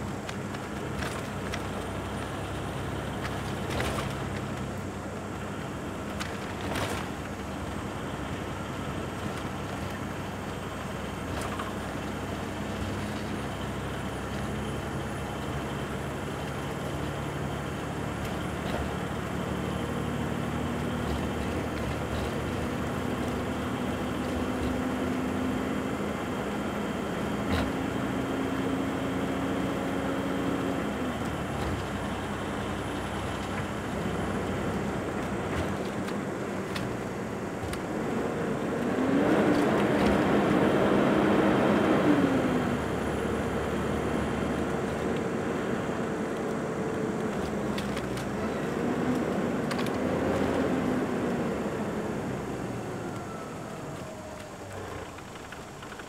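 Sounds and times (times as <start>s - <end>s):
engine hum: 0.0s - 56.0s
road noise inside vehicle: 0.0s - 56.0s.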